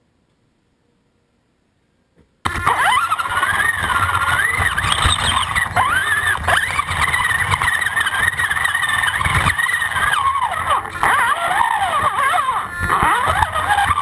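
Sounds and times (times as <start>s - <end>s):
electric motor whining: 2.5s - 14.0s.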